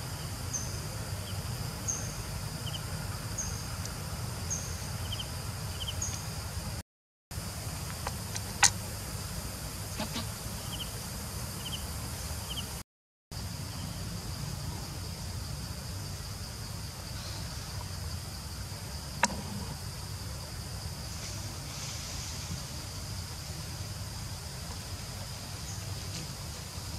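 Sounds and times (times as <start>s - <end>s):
low outdoor rumble: 0.0s - 12.8s, 13.4s - 26.9s.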